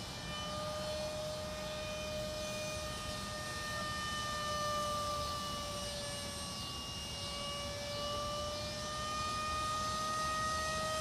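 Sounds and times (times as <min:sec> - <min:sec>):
model jet fan whining: 0:00.0 - 0:11.0.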